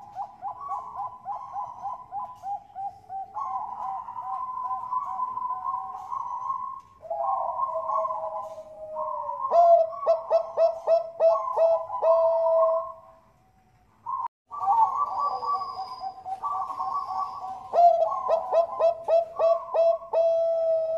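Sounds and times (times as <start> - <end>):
doves cooing: 0.0 - 13.3, 14.0 - 20.9.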